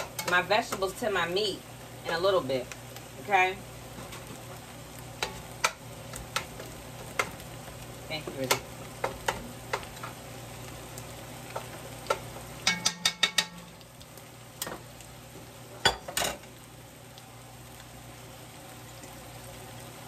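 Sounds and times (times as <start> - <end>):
meat sizzling: 0.0 - 20.0.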